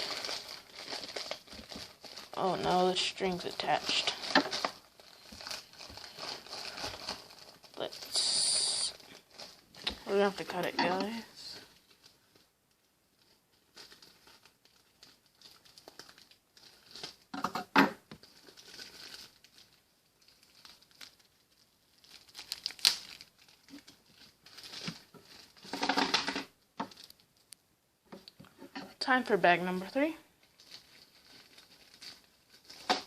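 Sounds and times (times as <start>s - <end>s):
plastic packaging crinkling and tearing: 0.0s - 17.4s, 18.0s - 27.6s, 29.0s - 33.0s.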